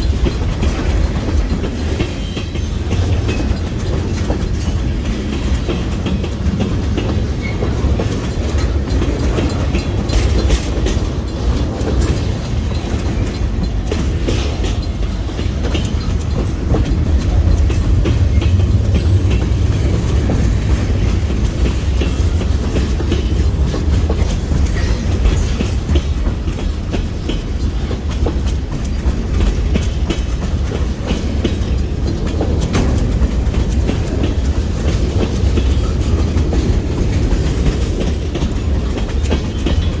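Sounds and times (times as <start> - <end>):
freight train cars rolling past: 0.0 - 40.0
steel wheels clickety-clack: 0.0 - 40.0.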